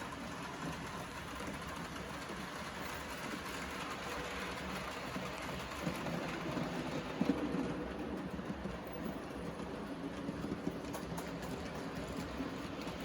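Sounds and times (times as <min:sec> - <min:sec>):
model train motor hum: 0:00.0 - 0:13.0.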